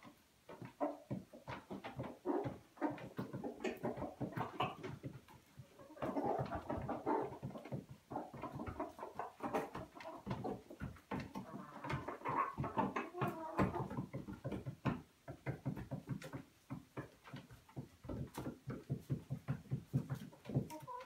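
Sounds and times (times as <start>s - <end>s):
chickens clucking: 0.0s - 21.0s
chickens pecking on wooden floor: 0.0s - 21.0s.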